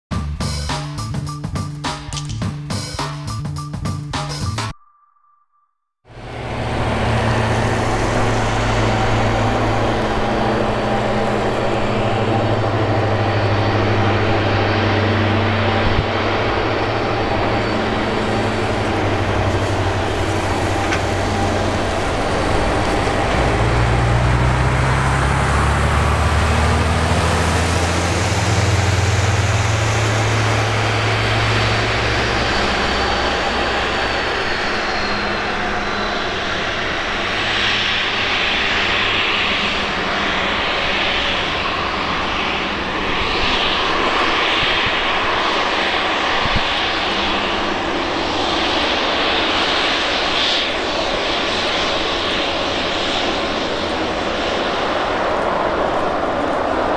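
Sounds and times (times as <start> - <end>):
jet engines low rumble: 0.1 - 4.7, 6.1 - 56.9
jet engine high whine: 6.1 - 56.9.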